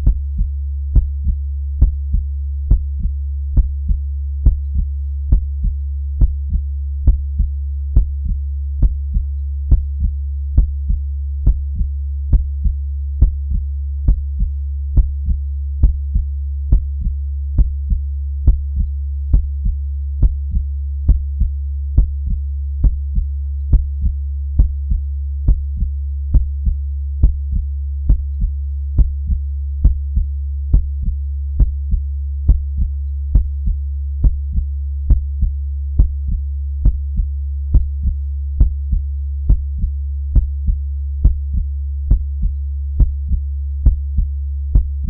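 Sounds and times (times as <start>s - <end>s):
constant low hum: 0.0s - 45.0s
heartbeat lub-dub thump: 0.0s - 45.0s.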